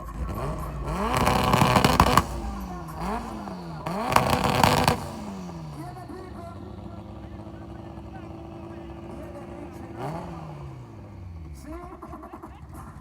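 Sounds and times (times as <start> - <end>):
engine revving with crackling exhaust: 0.0 - 13.0.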